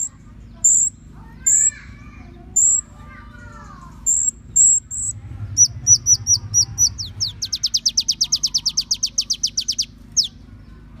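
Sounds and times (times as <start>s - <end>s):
small songbird singing: 0.0s - 11.0s.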